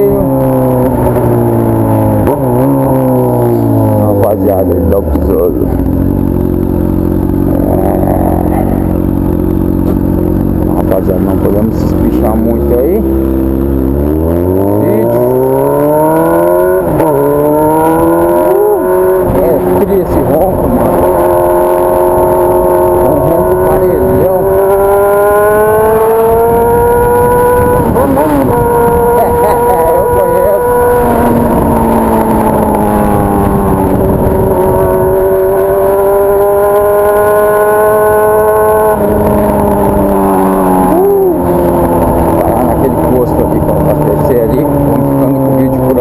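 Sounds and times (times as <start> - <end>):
motorcycle accelerating hard: 0.0 - 46.0.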